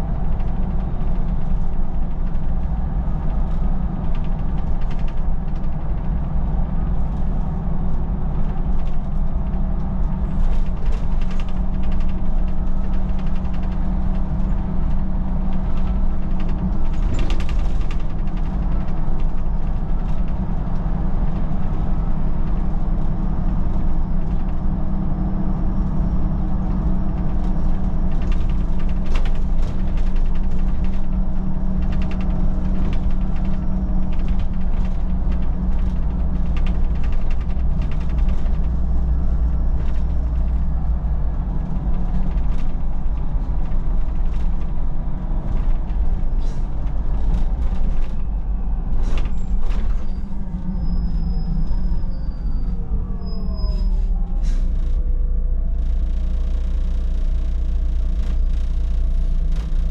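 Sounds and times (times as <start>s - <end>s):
bus engine low drone: 0.0s - 59.9s.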